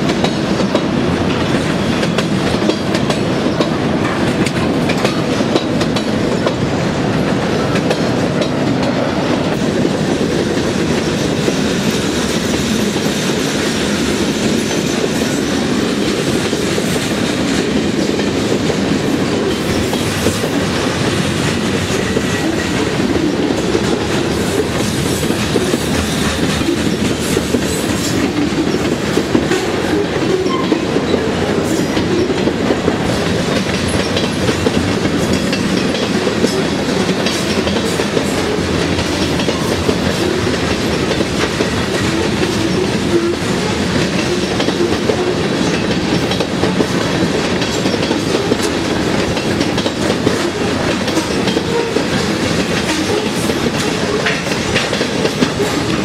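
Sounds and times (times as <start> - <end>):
rail joint clicks: 0.0 - 56.0
steel wheels on rails: 0.0 - 56.0.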